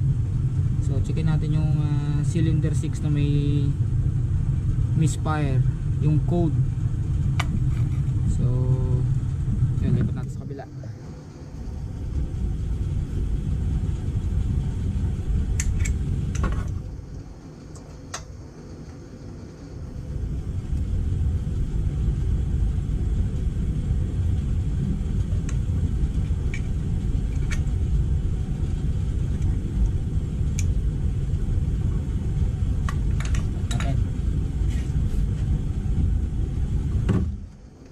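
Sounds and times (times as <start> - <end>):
steady low rumble: 0.0 - 37.9.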